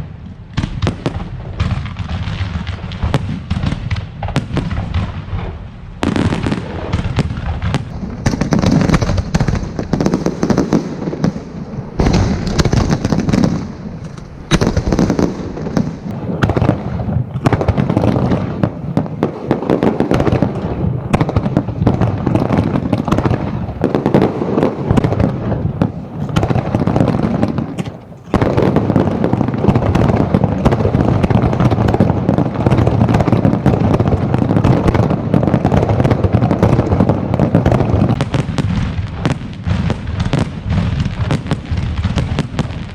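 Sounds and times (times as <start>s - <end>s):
fireworks bursting and crackling: 0.0s - 42.9s.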